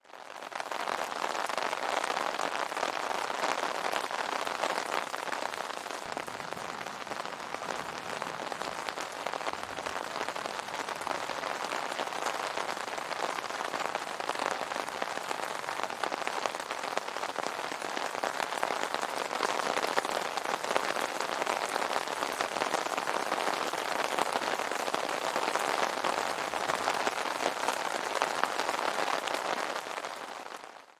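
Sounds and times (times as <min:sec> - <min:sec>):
rain pattering on tent fabric: 0:00.0 - 0:30.9.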